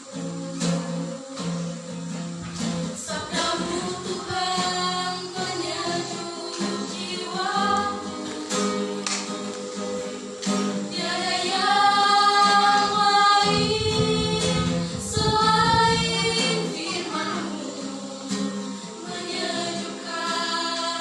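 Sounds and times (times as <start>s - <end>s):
group singing long notes: 0.0s - 21.0s.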